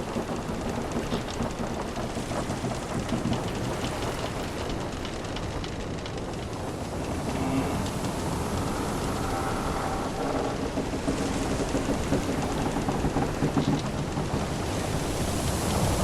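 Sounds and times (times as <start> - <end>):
sea noise: 0.0 - 16.0
ship timbers creaking: 0.0 - 16.0.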